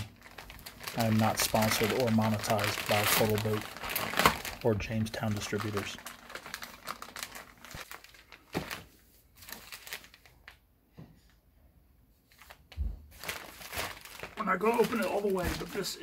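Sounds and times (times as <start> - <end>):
plastic and paper crinkling: 0.0 - 10.6, 12.2 - 16.0.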